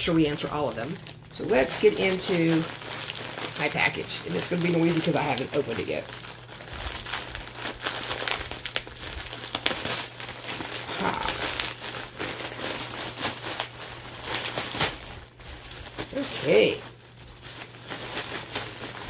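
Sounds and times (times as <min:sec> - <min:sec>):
package wrapping crinkling: 0:00.0 - 0:19.0.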